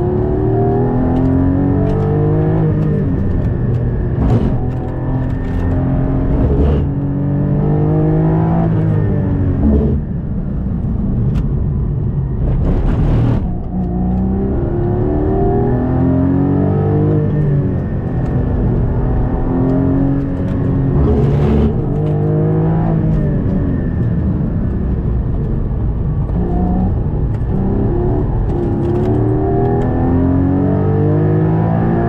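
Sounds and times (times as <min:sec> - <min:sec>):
car engine revving: 0:00.0 - 0:10.3, 0:12.3 - 0:32.0.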